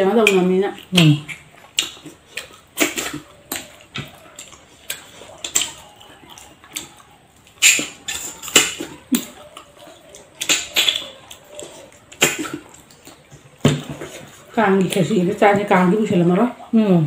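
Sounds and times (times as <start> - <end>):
chewing and lip smacks: 0.1 - 16.8.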